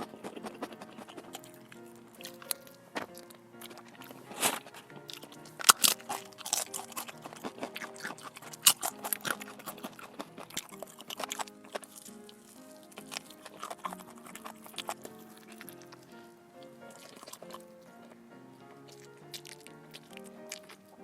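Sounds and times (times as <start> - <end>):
crunchy food being chewed: 0.0 - 21.0
soft background music: 0.0 - 21.0.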